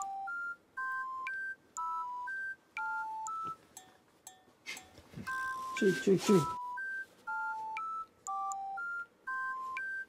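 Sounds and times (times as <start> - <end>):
electronic melody of beeping tones: 0.0 - 10.0.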